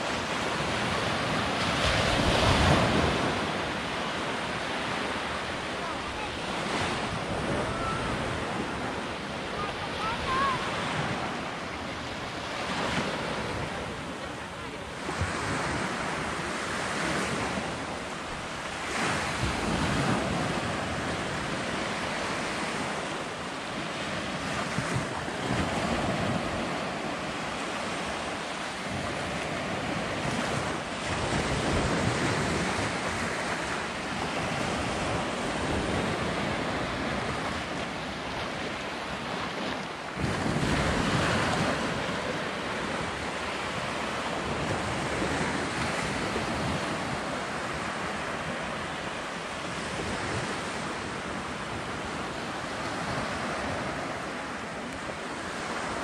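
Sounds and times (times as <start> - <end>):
small waves breaking on shore: 0.0 - 56.0
wind buffeting microphone: 0.0 - 56.0.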